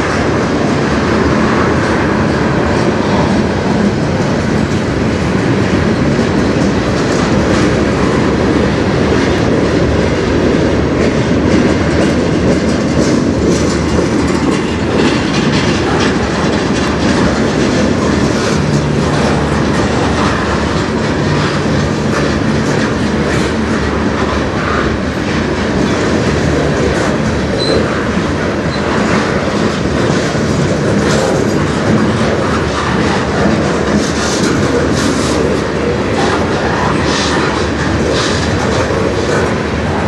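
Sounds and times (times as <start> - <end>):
train wheels rumbling on rail: 0.0 - 40.0
wheels clicking over rail joints: 0.0 - 40.0.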